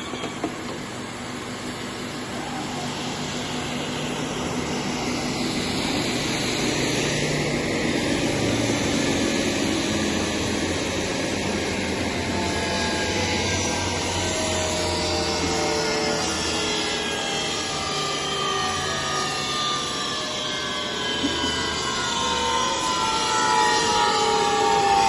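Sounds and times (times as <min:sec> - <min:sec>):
woodworking machine cutter whir: 0:00.0 - 0:25.0.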